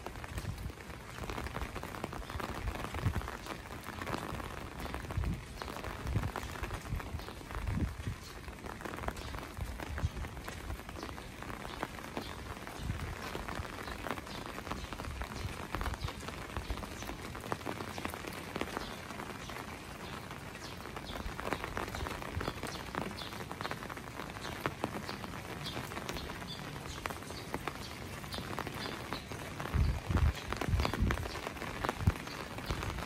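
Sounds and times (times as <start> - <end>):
raindrops ticking: 0.0 - 33.0
steady rain hiss: 0.0 - 33.0.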